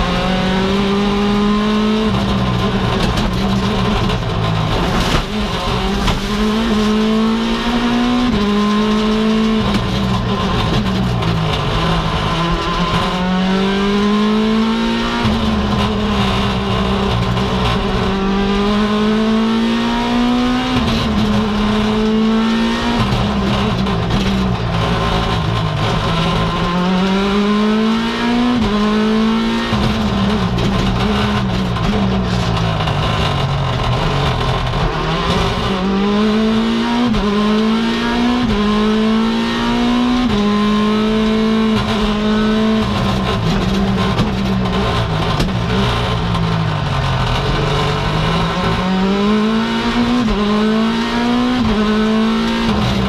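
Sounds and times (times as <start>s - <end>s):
car engine revving hard: 0.0s - 53.0s.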